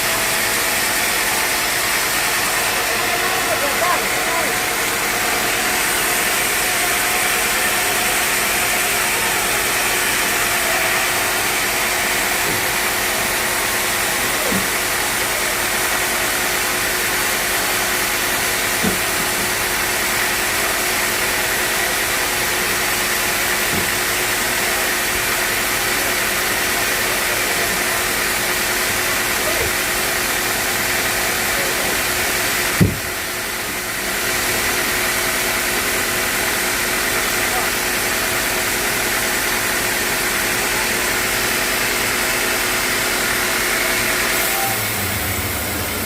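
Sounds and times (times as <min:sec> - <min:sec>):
sawmill machinery hum: 0:00.0 - 0:46.0.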